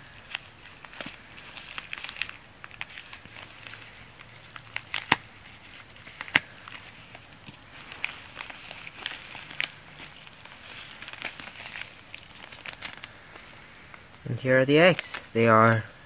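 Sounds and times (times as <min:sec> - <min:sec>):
plastic crinkling: 0:00.0 - 0:15.9.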